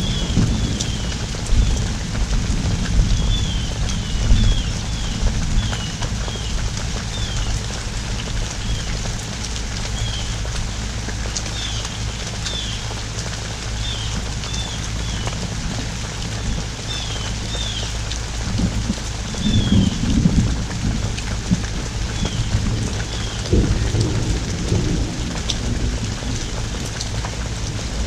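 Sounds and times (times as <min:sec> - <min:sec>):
pouring rain: 0:00.0 - 0:28.0.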